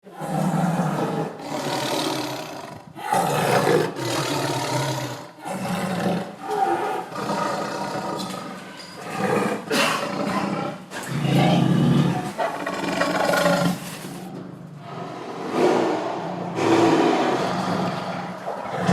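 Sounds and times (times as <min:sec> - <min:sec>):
tiger growling and roaring: 0:00.0 - 0:18.9.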